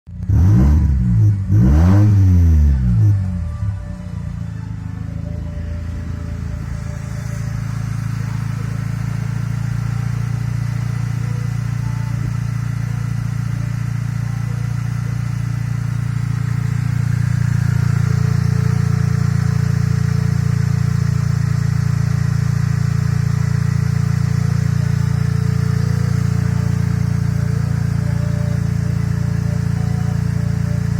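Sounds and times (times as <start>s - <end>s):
engine running steadily: 0.1s - 30.9s.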